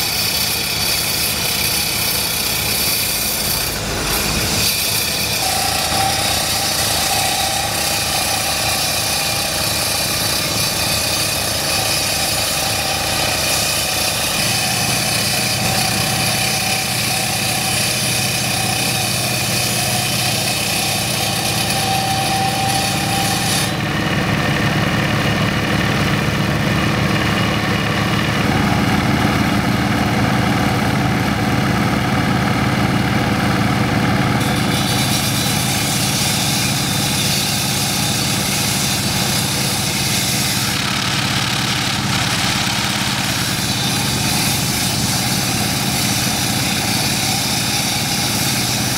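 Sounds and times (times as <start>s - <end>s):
diesel engine running: 2.0s - 20.4s, 21.1s - 48.9s.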